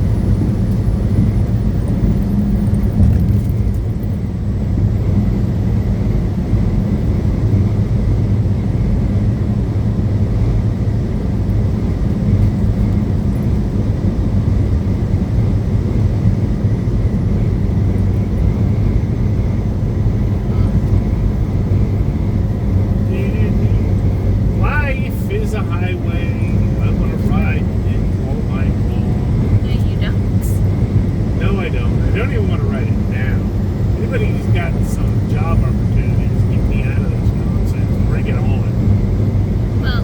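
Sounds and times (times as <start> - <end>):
truck engine drone: 0.0 - 40.0.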